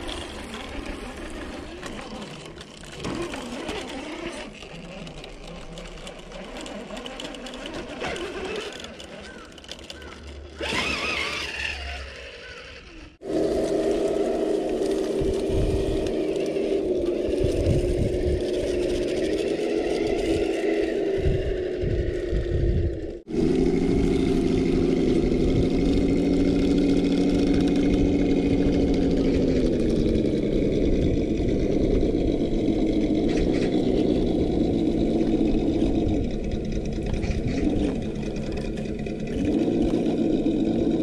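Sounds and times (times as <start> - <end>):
toy car electric motor whining: 0.0 - 41.0.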